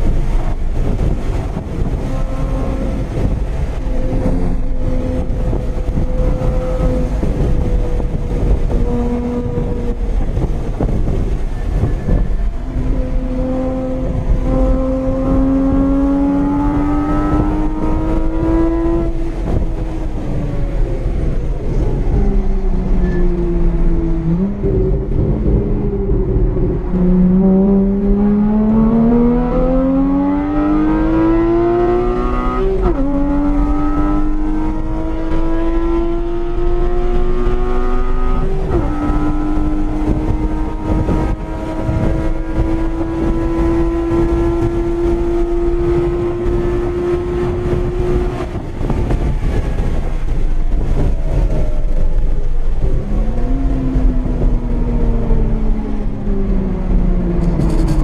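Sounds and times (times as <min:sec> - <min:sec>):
car engine revving at full throttle: 0:00.0 - 0:58.0.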